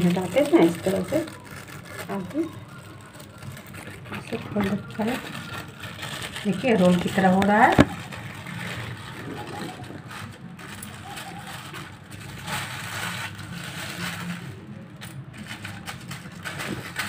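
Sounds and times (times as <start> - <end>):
plastic sheet rustling and crinkling: 0.0 - 17.0.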